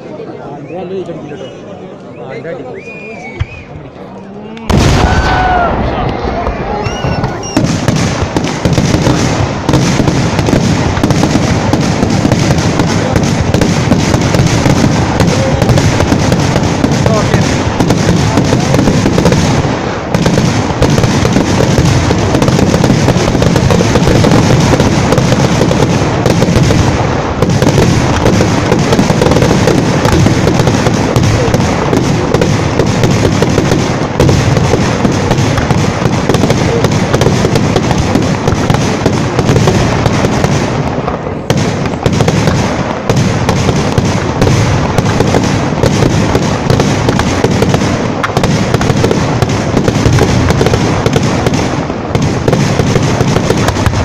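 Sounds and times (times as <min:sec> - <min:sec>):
fireworks launching and bursting: 0:04.7 - 0:54.0.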